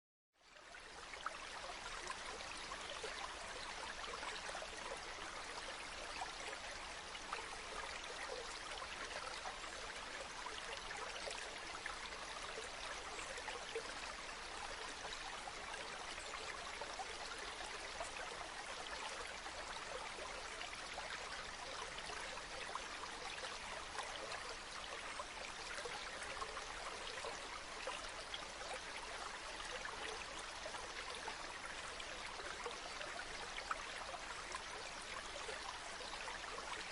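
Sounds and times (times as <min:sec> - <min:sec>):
stream running water: 0:00.4 - 0:36.9.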